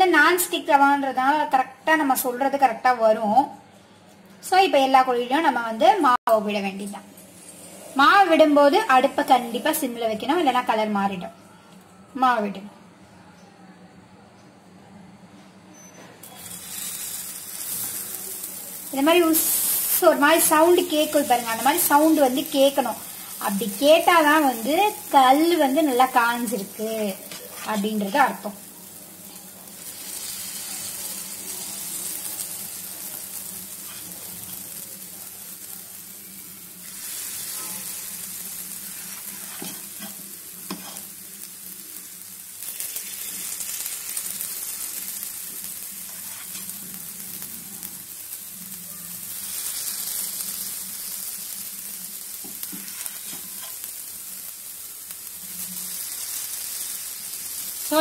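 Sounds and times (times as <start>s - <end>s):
batter sizzling in hot oil: 5.5s - 10.7s, 16.2s - 58.0s.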